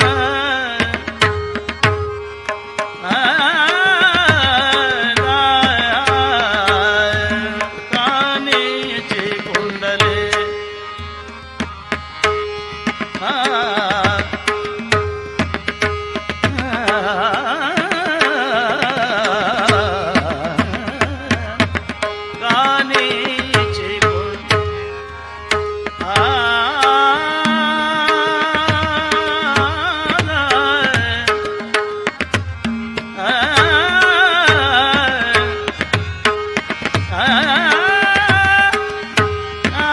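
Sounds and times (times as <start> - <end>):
tabla strokes: 0.0 - 39.9.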